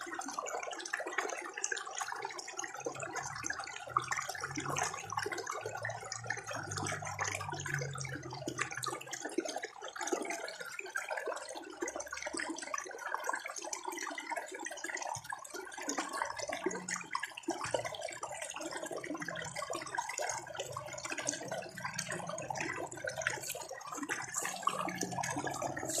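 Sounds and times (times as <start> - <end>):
water trickling over stones: 0.0 - 26.0.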